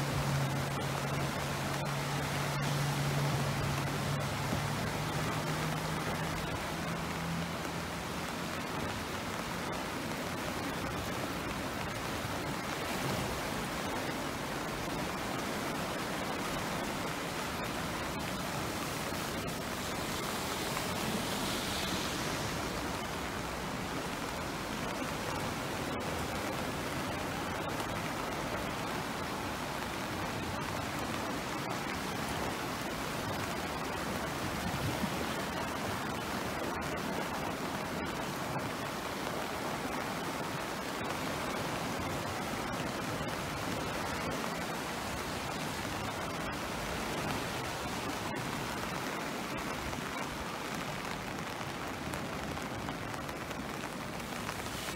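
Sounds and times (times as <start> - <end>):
floodwater rushing: 0.0 - 54.9.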